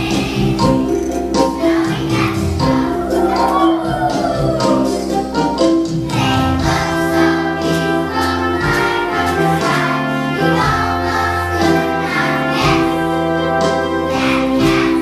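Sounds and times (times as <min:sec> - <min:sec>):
song with singing voices: 0:00.0 - 0:15.0.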